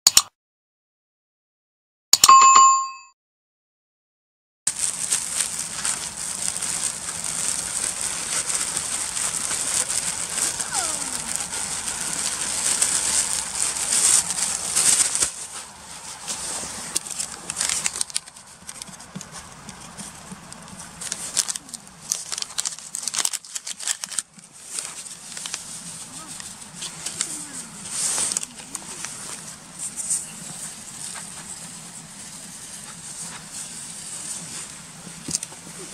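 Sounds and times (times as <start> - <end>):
soft rustles and clicks: 4.7 - 35.9.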